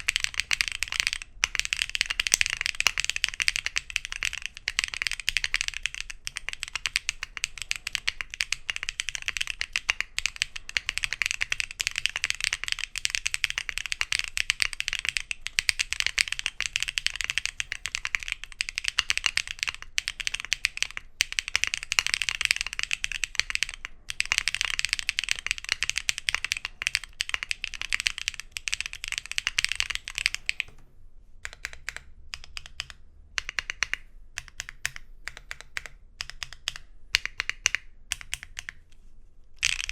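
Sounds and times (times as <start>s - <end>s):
fast mechanical keyboard typing: 0.0s - 30.8s, 31.4s - 38.8s, 39.6s - 39.9s.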